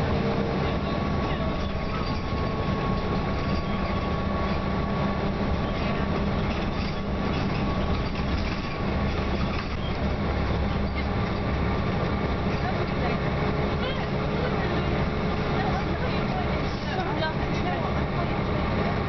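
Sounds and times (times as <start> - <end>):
bus diesel engine rumble: 0.0 - 19.0
road and body noise: 0.0 - 19.0.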